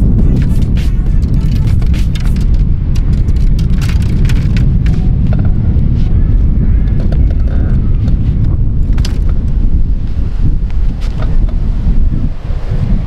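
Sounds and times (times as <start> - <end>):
wind buffeting the microphone: 0.0 - 13.0.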